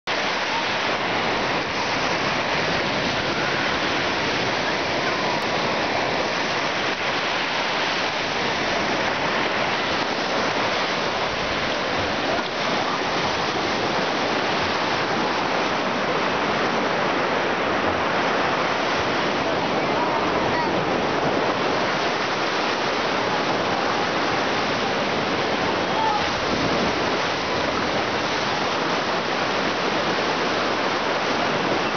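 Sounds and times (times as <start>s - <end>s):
waves breaking on sandy shore: 0.0s - 31.9s.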